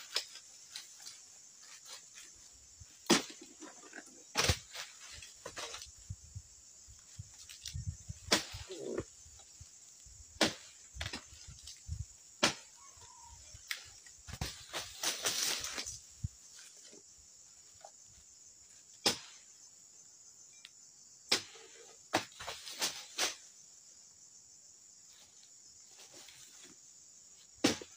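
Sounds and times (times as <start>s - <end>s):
high insect drone: 0.0s - 27.9s.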